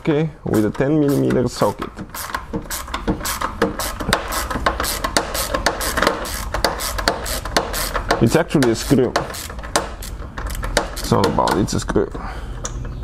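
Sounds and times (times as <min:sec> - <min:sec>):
hand ratchet clicking: 0:00.5 - 0:11.8.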